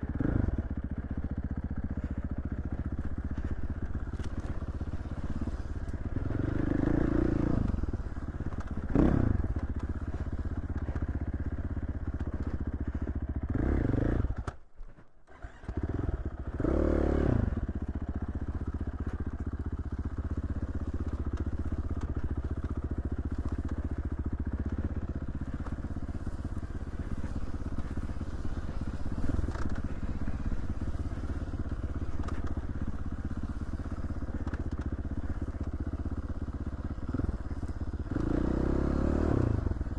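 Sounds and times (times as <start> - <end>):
dirt bike engine revving: 0.0 - 1.0, 2.0 - 11.1, 12.8 - 14.5, 15.2 - 18.8, 20.0 - 36.3, 37.0 - 39.9.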